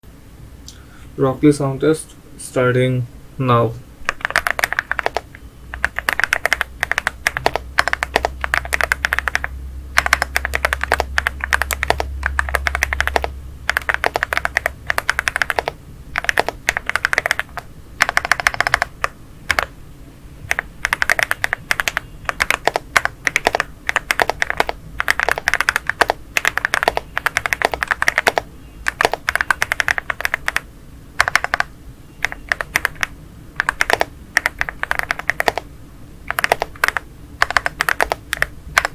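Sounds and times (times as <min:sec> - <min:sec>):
mechanical keyboard typing: 0:04.0 - 0:19.7, 0:20.5 - 0:35.7, 0:36.3 - 0:38.9.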